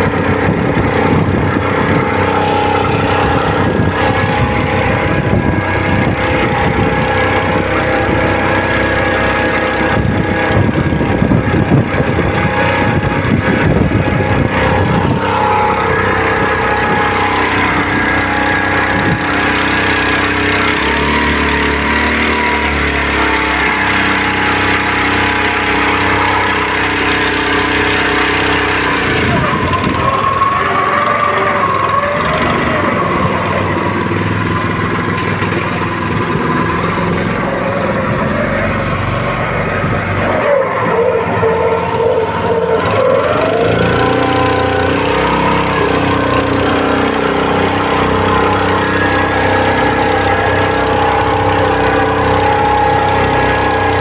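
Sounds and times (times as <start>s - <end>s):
small boat engine running: 0.0s - 54.0s.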